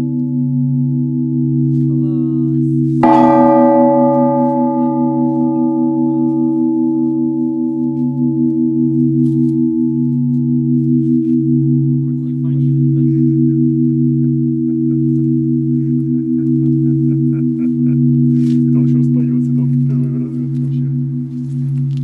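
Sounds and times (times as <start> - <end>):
church bell strike: 0.0 - 22.0
humming of ringing bells: 0.0 - 22.0.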